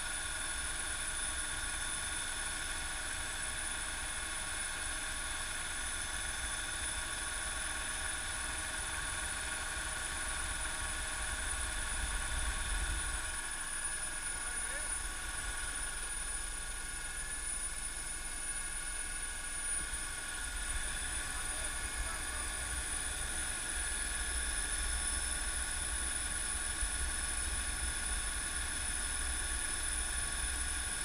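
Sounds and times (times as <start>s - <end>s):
helicopter rotor rumble: 0.0s - 31.0s
helicopter turbine whine: 0.0s - 31.0s.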